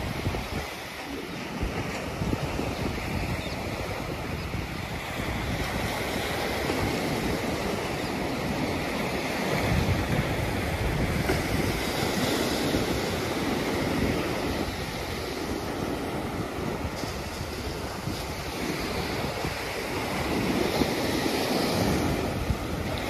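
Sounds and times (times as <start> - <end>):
small surf on sandy beach: 0.0 - 23.0
wind buffeting microphone: 0.0 - 23.0.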